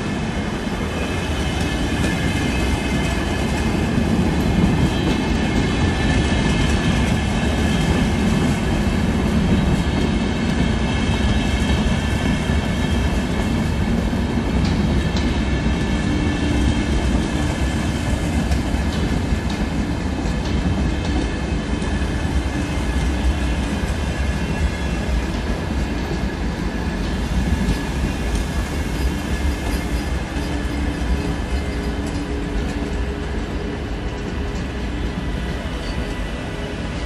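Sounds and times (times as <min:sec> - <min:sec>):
rail clicks: 0:00.0 - 0:37.0
train rumbling: 0:00.0 - 0:37.0
train whine: 0:00.0 - 0:37.0.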